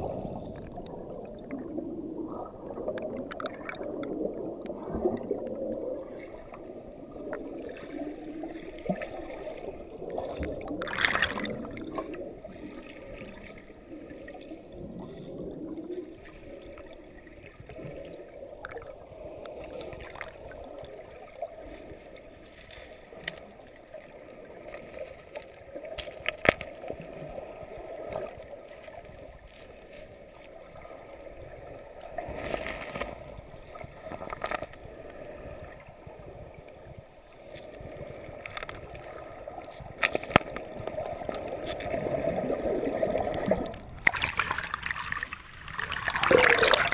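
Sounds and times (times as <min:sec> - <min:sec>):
underwater churning water: 0:00.0 - 0:46.9.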